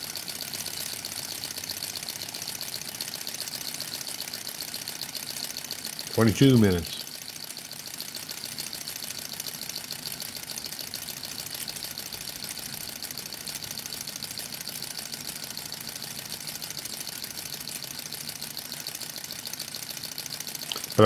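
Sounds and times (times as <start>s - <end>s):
model engine mechanical ticking: 0.0s - 21.0s.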